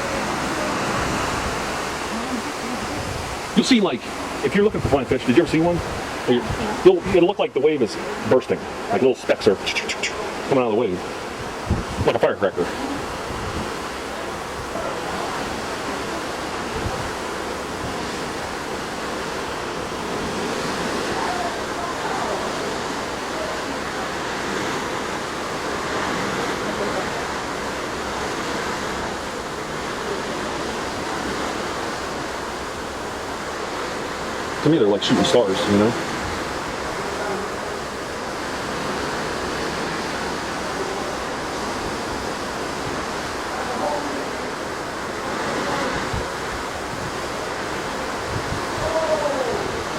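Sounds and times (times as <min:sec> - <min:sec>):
ocean waves rushing: 0:00.0 - 0:49.9
wind: 0:00.0 - 0:49.9.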